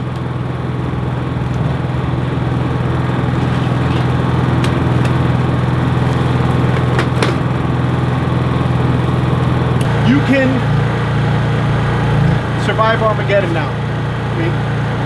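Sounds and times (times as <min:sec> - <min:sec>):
generator engine humming: 0:00.0 - 0:15.0.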